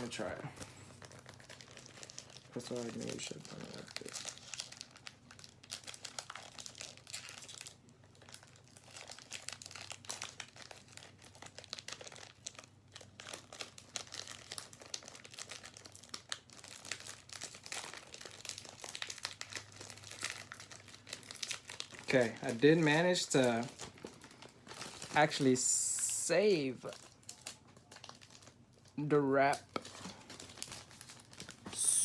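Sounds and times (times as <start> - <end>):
plastic wrapper crinkling and tearing: 0.0 - 32.0.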